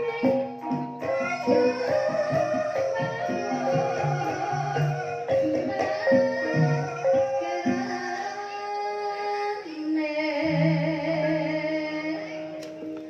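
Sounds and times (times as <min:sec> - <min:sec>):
gamelan music: 0:00.0 - 0:13.0
woman singing: 0:00.0 - 0:13.0.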